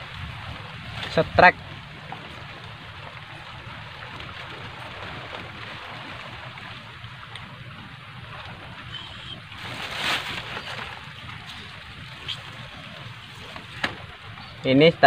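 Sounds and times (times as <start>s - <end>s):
soft rushing outdoor noise: 0.0s - 15.0s.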